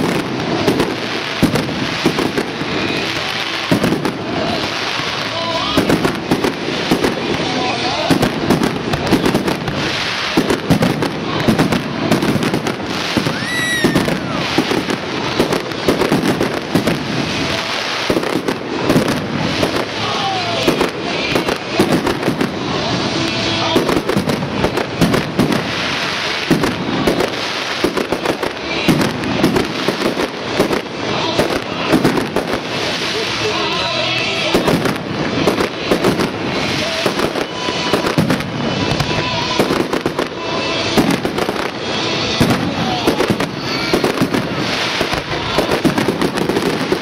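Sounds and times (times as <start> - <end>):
fireworks bangs and crackling: 0.0 - 47.0
firework whistle: 8.1 - 33.3, 34.5 - 47.0.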